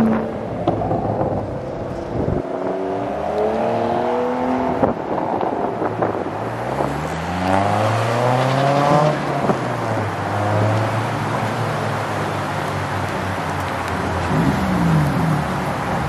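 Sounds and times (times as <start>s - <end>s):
car engines accelerating hard: 0.0s - 16.0s.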